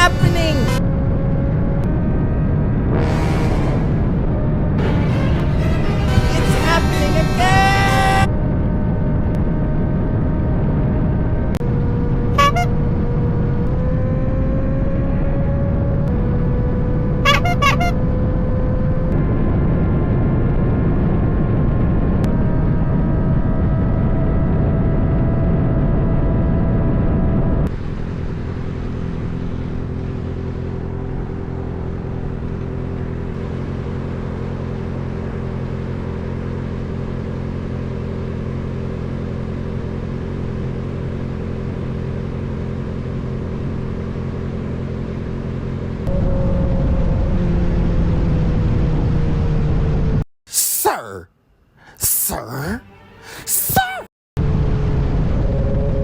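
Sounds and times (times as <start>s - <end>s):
motorcycle engine drone: 0.0s - 50.2s, 54.4s - 56.0s.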